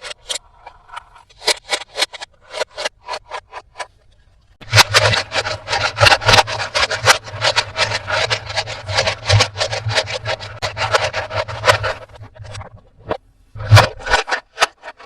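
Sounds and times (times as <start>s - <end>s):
hands scraping toy packaging: 0.0s - 15.0s.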